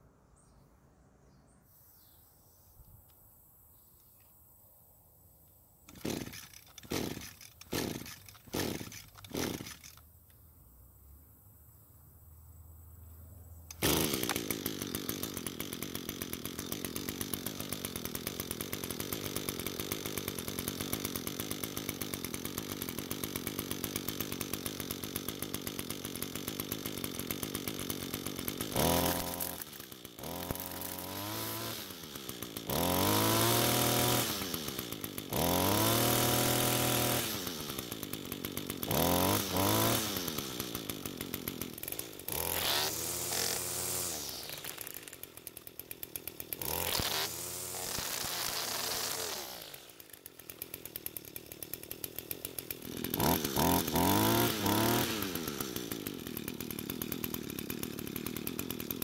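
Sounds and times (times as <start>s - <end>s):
string trimmer engine idling and revving: 5.9s - 10.1s, 13.4s - 59.0s.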